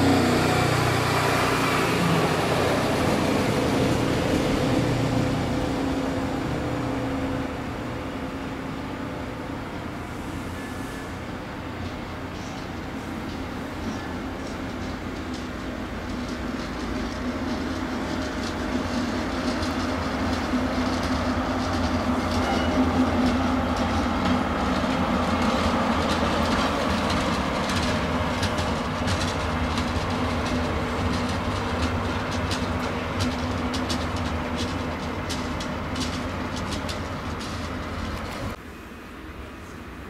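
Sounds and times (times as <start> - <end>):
wheels clicking over rail joints: 0.0 - 38.6
locomotive engine droning: 0.0 - 40.0.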